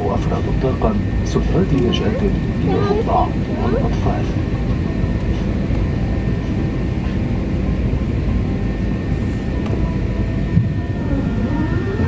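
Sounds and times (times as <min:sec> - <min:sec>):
aircraft cabin low rumble: 0:00.0 - 0:12.0.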